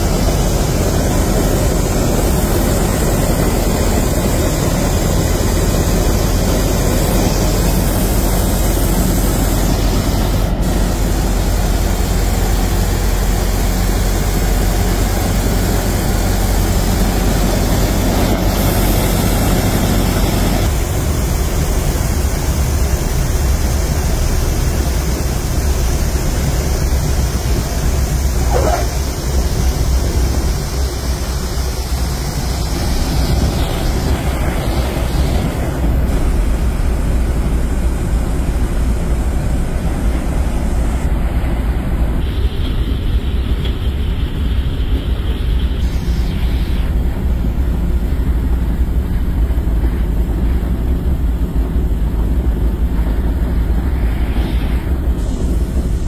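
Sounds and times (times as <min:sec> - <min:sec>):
propeller engines droning: 0:00.0 - 0:56.0
wind rush: 0:00.0 - 0:56.0.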